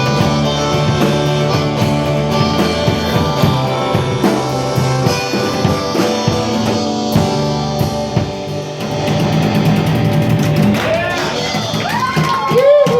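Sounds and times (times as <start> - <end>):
instrumental rock band playing: 0.0 - 12.9.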